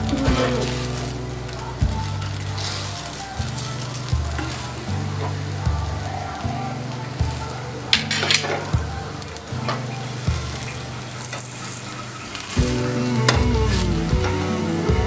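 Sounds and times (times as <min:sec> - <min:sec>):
background music: 0:00.0 - 0:15.0
batter sizzling in a frying pan: 0:00.0 - 0:15.0.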